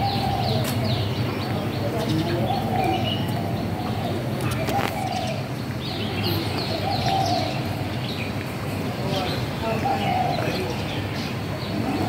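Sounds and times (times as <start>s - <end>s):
low cooing bird: 0.0s - 8.3s, 8.9s - 12.0s
small birds chirping: 0.0s - 12.0s.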